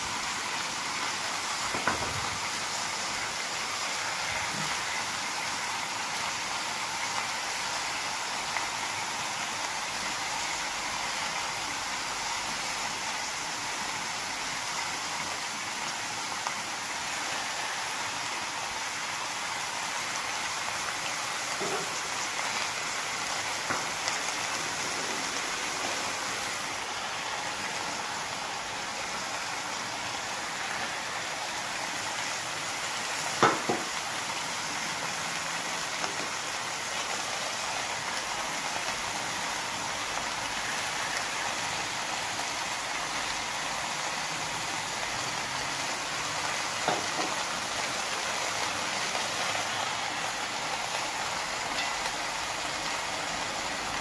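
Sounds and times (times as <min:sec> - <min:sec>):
meat sizzling: 0:00.0 - 0:54.0.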